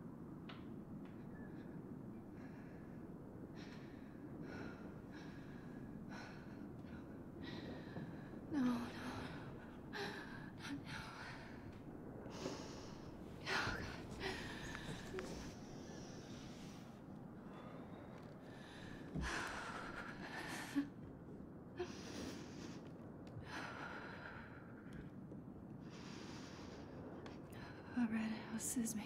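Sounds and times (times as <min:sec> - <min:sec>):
woman breathing heavily: 0:01.8 - 0:21.1, 0:21.8 - 0:25.2, 0:25.8 - 0:28.6.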